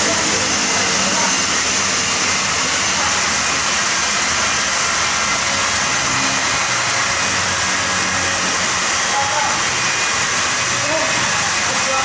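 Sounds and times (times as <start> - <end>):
machine hissing air: 0.0 - 12.0.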